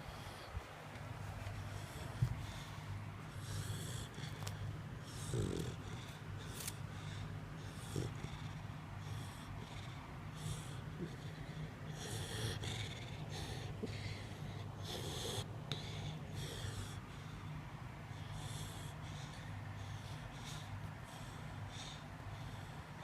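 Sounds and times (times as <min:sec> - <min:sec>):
steady low hum: 0:00.0 - 0:23.0
dog snoring: 0:03.3 - 0:17.3, 0:18.2 - 0:22.8.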